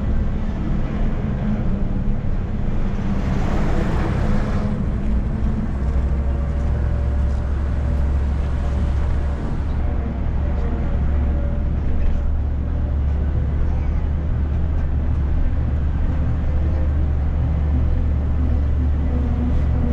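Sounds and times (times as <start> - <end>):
minibus engine running: 0.0 - 19.9
road noise: 0.0 - 19.9.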